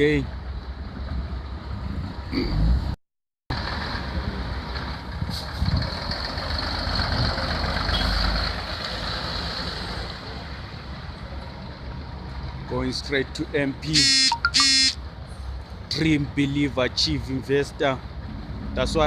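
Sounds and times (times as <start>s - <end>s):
truck diesel engine rumbling: 0.0s - 17.3s.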